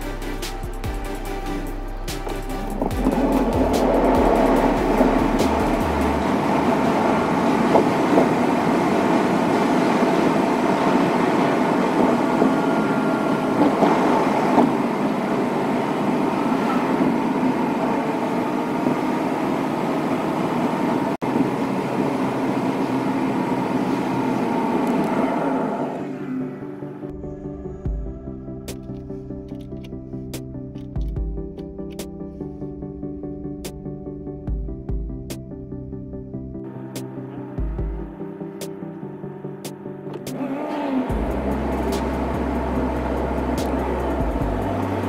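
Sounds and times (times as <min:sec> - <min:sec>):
car engine and road noise: 0:00.0 - 0:33.9, 0:34.6 - 0:45.0.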